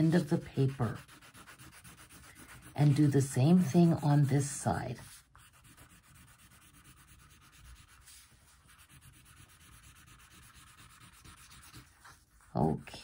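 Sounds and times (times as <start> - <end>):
crayon rubbing on paper: 0.0 - 12.7.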